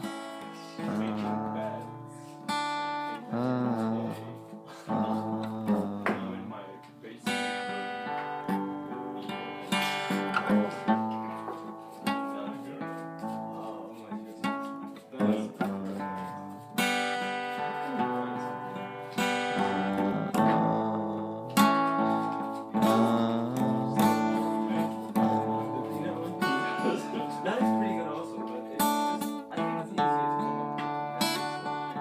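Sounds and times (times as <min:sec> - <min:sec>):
acoustic guitar chords: 0:00.0 - 0:32.0.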